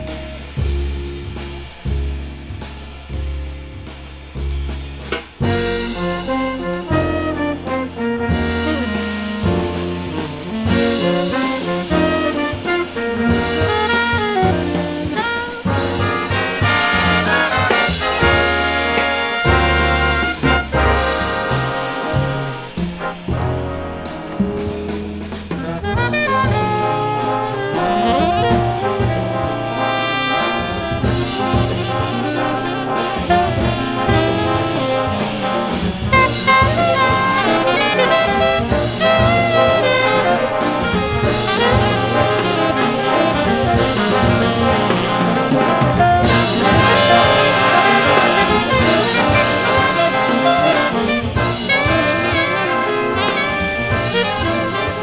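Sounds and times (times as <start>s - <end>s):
jazz orchestra music: 0.0s - 55.0s.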